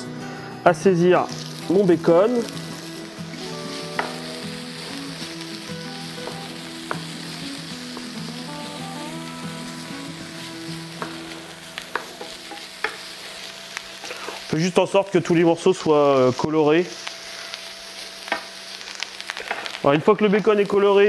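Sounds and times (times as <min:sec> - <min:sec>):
bacon sizzling in frying pan: 0:00.9 - 0:21.0.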